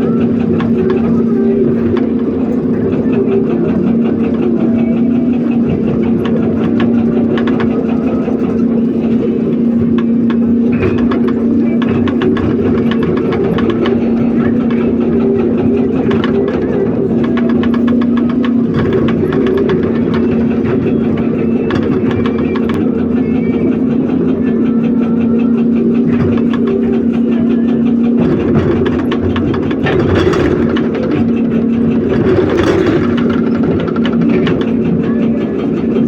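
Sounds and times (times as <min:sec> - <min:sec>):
excavator diesel engine running: 0:00.0 - 0:36.0
hydraulic rock breaker hammering: 0:00.0 - 0:36.0.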